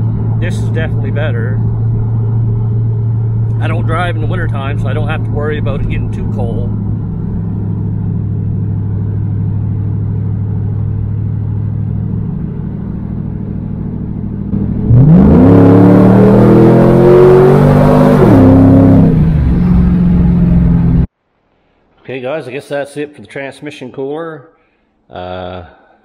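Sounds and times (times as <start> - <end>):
car engine accelerating: 0.0 - 21.1.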